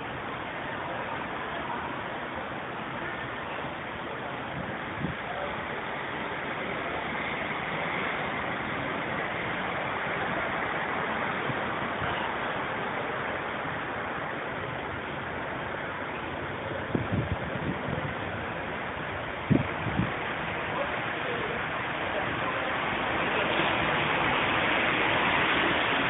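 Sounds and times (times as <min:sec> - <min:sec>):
city street traffic hiss: 0:00.0 - 0:26.0.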